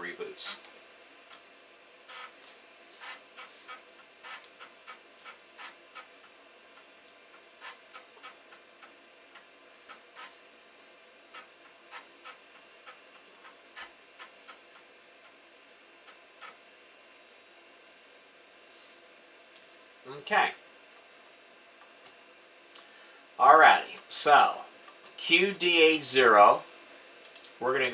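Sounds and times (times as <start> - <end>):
faint steady hiss: 0.0 - 27.9.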